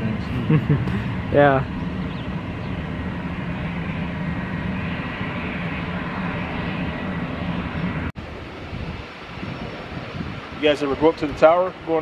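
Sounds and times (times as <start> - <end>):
faint high whine: 0.0 - 12.0
jet engines humming: 0.0 - 12.0.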